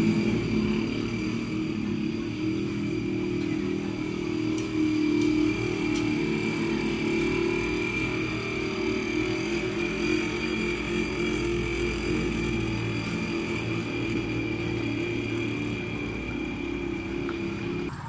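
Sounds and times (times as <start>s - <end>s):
engine droning: 0.0s - 18.0s
high whine: 0.0s - 18.0s.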